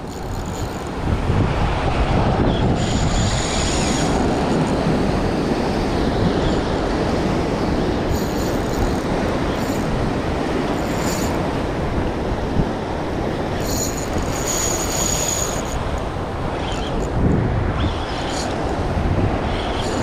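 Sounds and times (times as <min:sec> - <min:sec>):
fishing reel whirring: 0:00.0 - 0:01.1, 0:02.5 - 0:12.2, 0:13.0 - 0:20.0
wind on microphone: 0:00.0 - 0:20.0.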